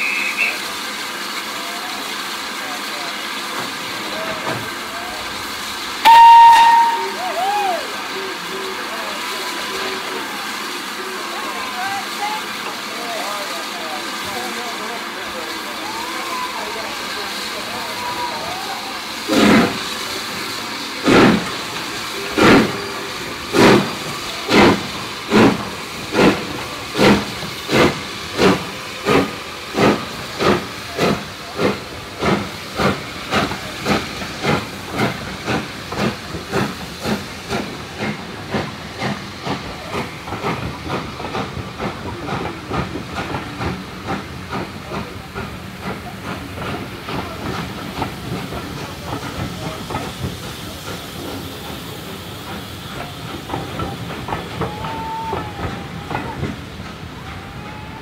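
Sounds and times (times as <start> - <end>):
steam hissing: 0.0 - 58.0
steam locomotive exhaust beats: 0.0 - 58.0.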